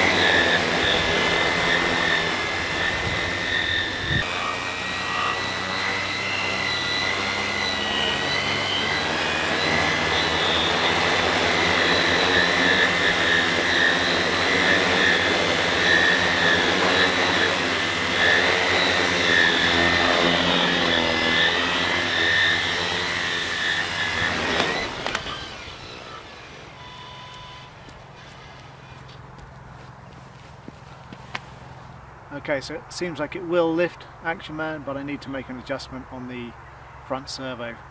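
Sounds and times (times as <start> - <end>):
drone motors whining: 0.0 - 31.8.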